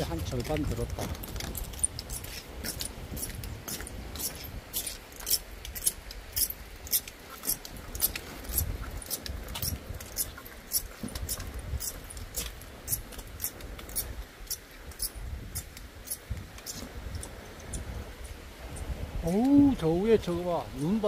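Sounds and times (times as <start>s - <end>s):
low wind rumble: 0.0s - 21.0s.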